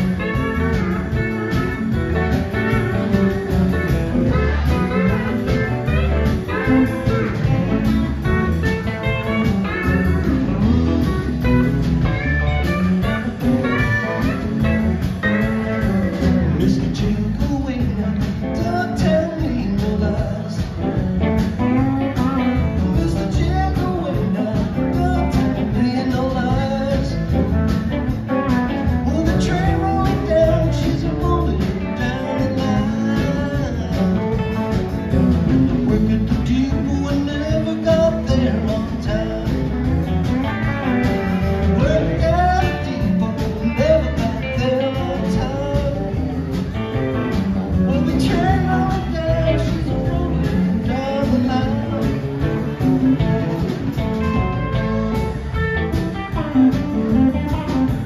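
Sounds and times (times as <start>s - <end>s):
live blues band playing: 0.0s - 58.0s.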